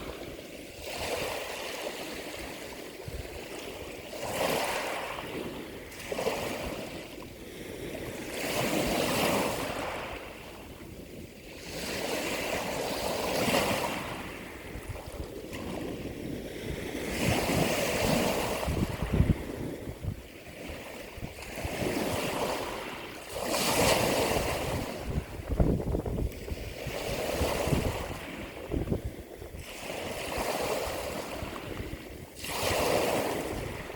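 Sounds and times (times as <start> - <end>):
ocean waves breaking: 0.0 - 33.9.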